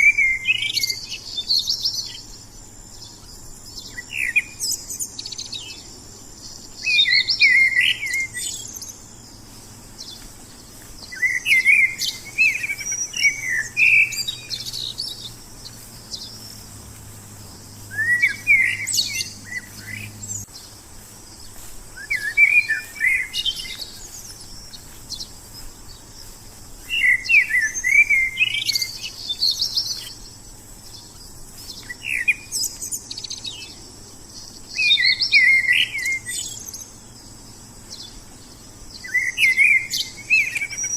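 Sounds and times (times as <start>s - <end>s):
songbird chirping and warbling: 0.0s - 40.9s.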